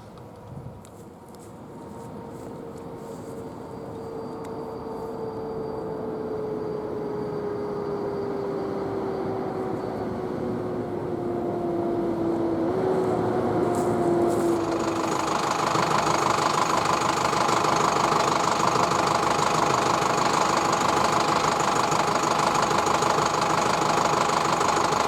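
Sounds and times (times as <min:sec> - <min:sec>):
train approaching: 0:01.6 - 0:25.0.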